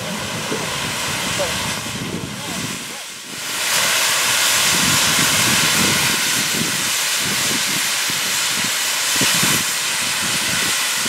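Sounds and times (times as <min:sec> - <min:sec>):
steam hissing from safety valves: 0:00.0 - 0:11.0.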